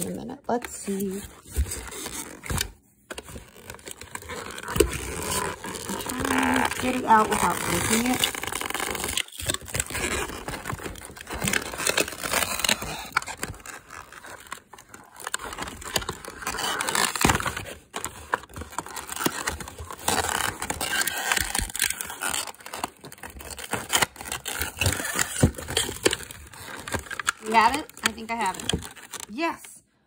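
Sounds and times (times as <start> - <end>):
packaging scraping and rustling: 0.0 - 29.5.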